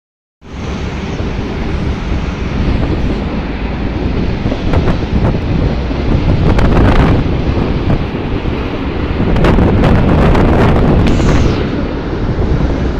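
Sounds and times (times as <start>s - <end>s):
diesel locomotive engine rumbling: 0.5s - 12.9s
wind buffeting microphone: 0.5s - 12.9s.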